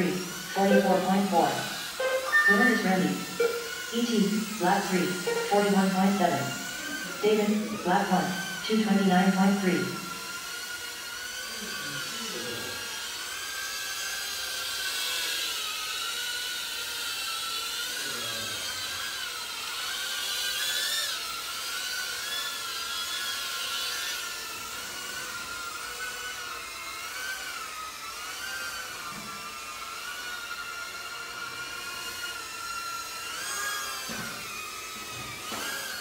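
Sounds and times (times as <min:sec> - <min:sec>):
drone motors whining: 0:00.0 - 0:36.0.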